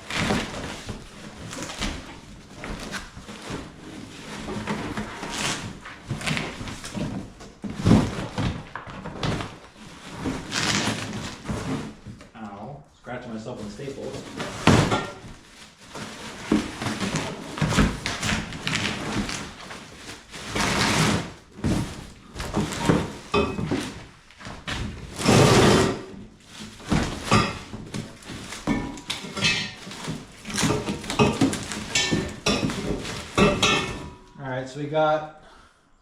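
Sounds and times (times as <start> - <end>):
cardboard and plastic rustling: 0.0 - 12.5, 13.2 - 34.4.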